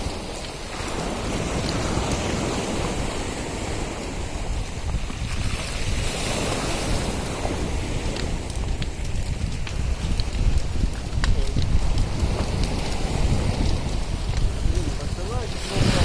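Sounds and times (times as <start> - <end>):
sea surf washing ashore: 0.0 - 16.0
wind rumbling on microphone: 0.0 - 16.0.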